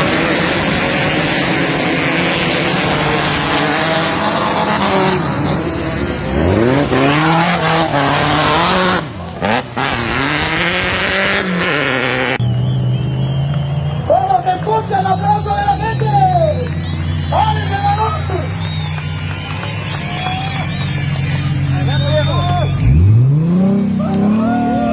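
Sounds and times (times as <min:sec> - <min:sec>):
vehicle engine revving: 0:00.0 - 0:24.9.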